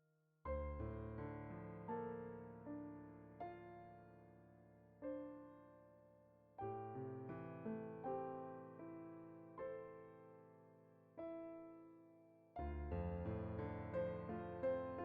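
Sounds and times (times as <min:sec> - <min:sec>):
soft solo piano: 0:00.5 - 0:15.0.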